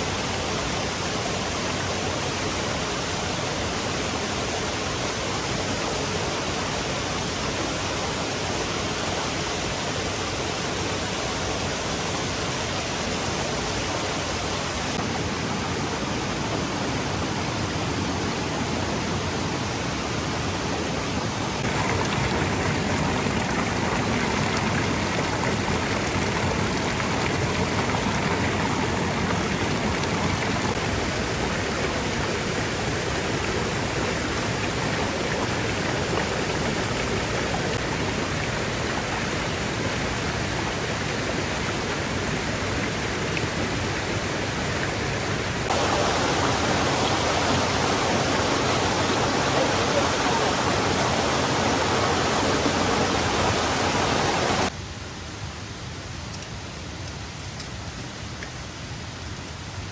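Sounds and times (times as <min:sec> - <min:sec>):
heavy rain: 0:00.0 - 0:54.8
waterfall rushing: 0:00.0 - 0:54.8.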